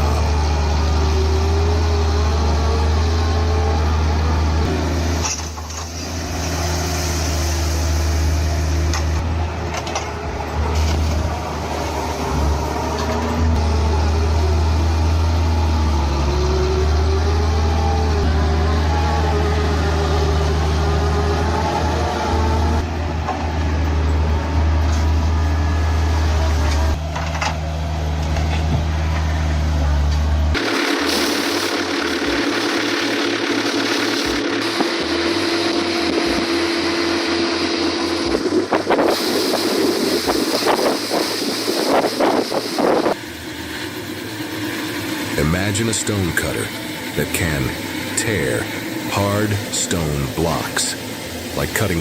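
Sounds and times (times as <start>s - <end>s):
heavy machine engine humming: 0.0s - 52.0s.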